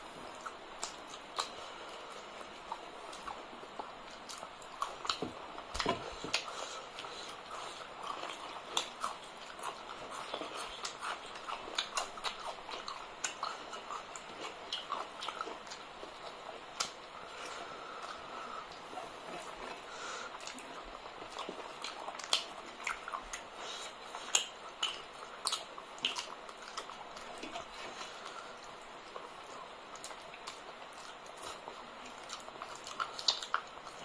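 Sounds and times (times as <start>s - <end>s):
wet chewing and lip smacks: 0.2s - 34.0s.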